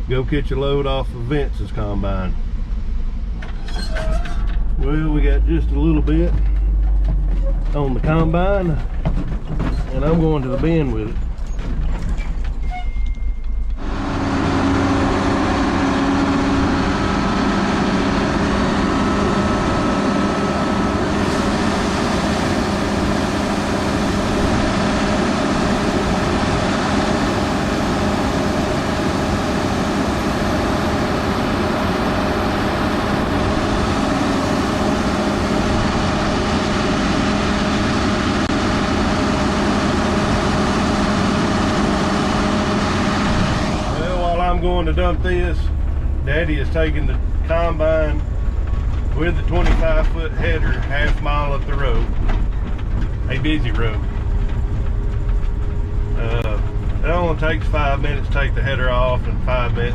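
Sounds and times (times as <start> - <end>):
road noise: 0.0 - 12.7, 13.4 - 59.9
truck engine: 0.0 - 59.9.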